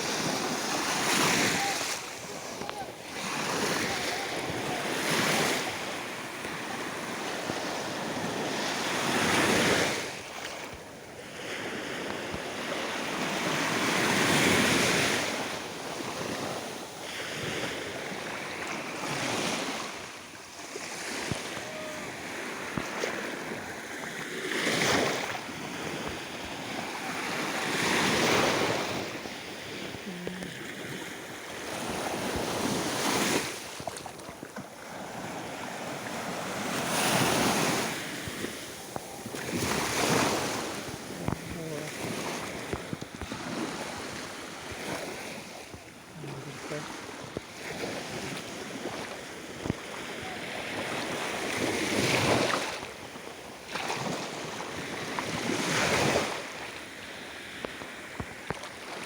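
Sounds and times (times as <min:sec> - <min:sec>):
small waves washing ashore: 0:00.0 - 0:59.0.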